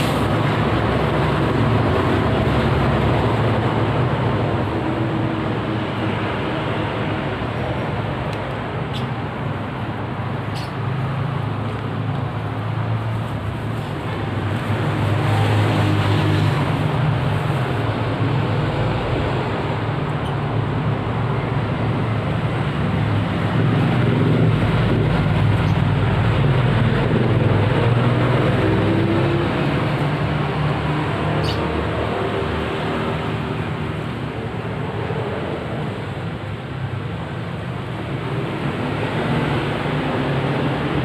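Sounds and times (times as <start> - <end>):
engine rumble with hiss: 0.0 - 41.0.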